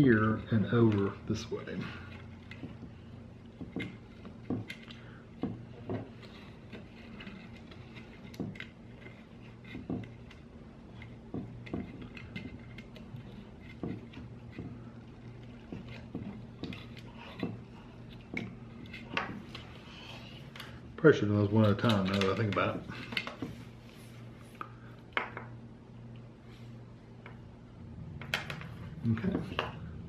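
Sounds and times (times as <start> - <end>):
steady low hum: 0.0 - 30.0
cables and plastic parts handled: 0.2 - 25.4.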